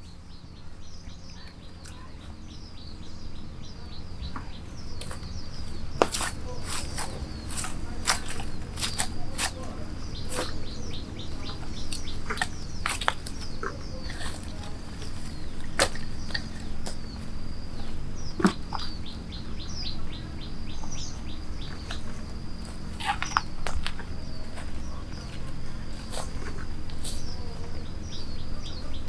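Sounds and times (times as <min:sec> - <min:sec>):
birds chirping: 0:00.0 - 0:29.0
high insect drone: 0:00.0 - 0:29.0.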